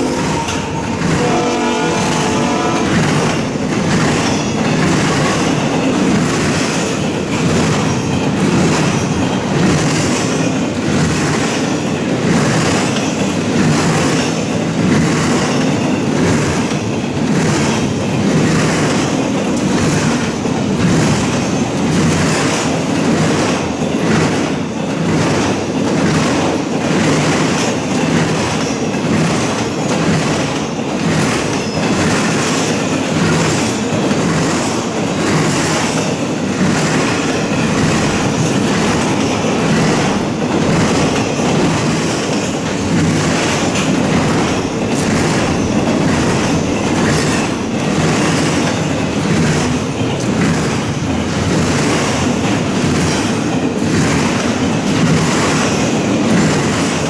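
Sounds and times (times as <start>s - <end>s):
train rumble: 0.0s - 57.0s
train wheels clicking on track: 0.0s - 57.0s.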